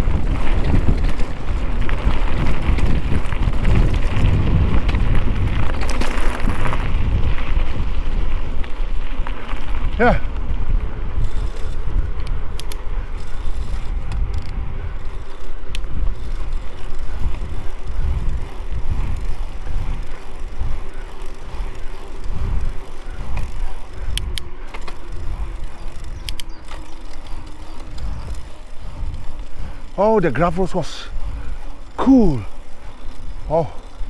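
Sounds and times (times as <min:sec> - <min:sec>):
bike rattling: 0:00.0 - 0:34.0
tyres rumbling on gravel: 0:00.0 - 0:34.0
wind: 0:00.0 - 0:34.0.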